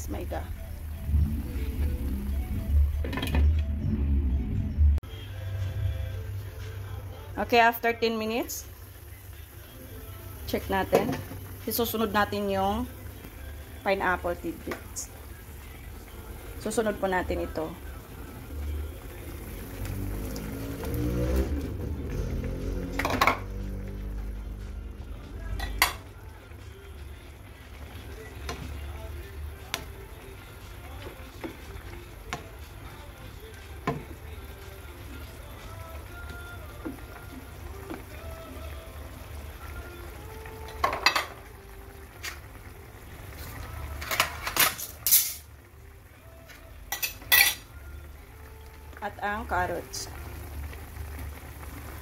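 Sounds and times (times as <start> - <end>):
soft background music: 0.0 - 52.0.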